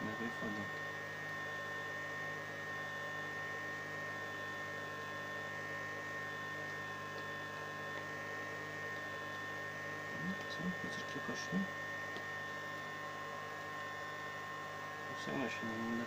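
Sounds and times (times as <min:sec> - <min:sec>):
electrical hum with whine: 0:00.0 - 0:16.0.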